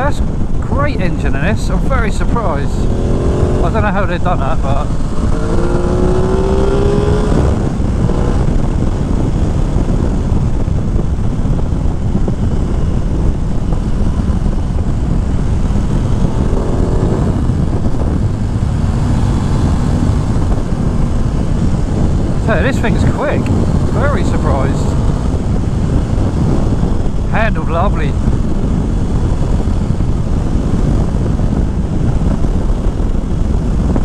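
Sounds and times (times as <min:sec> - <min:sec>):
wind on microphone: 0:00.0 - 0:34.0
motorcycle engine accelerating: 0:01.5 - 0:34.0.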